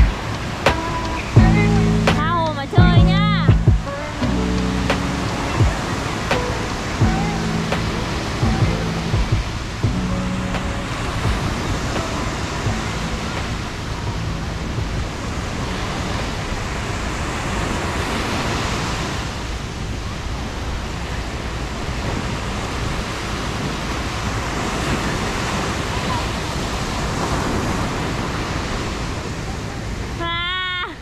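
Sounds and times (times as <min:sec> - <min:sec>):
small waves breaking on shore: 0:00.0 - 0:31.0.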